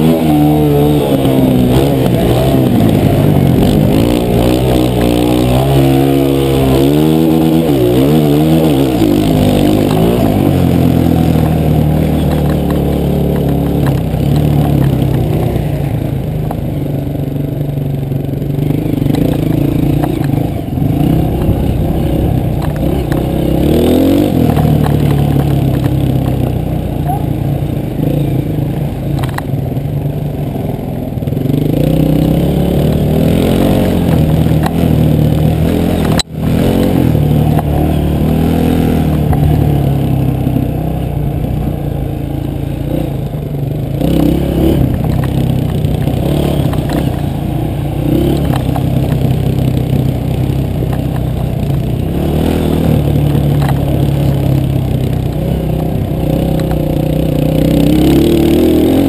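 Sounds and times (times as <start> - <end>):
dirt bike engine revving: 0.0 - 29.6, 30.3 - 59.0.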